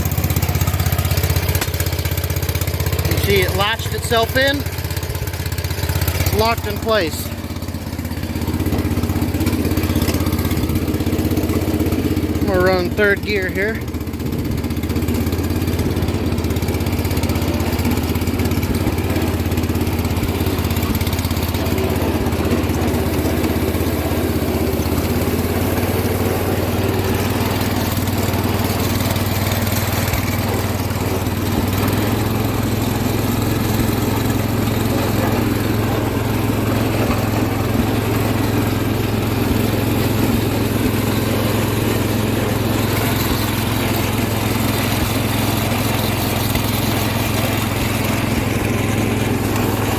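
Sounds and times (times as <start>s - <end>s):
garden tractor engine running: 0.0s - 49.9s.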